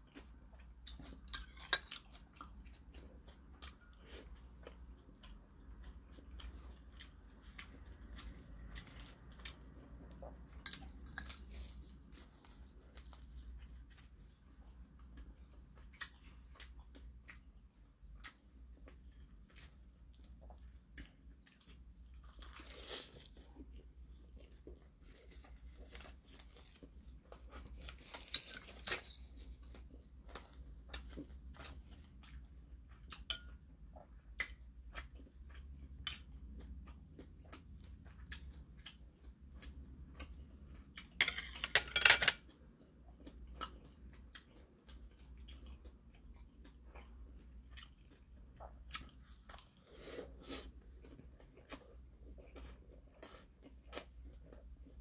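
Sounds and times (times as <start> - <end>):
man chewing: 0.0 - 41.2, 42.5 - 55.0.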